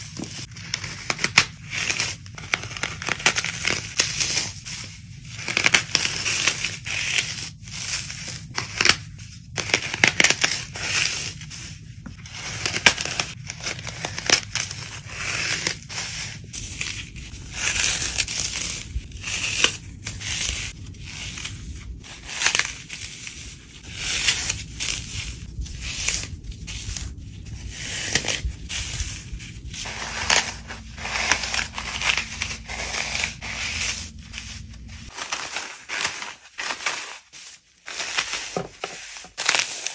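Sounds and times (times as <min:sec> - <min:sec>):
floral foam crunching: 0:00.0 - 0:39.9.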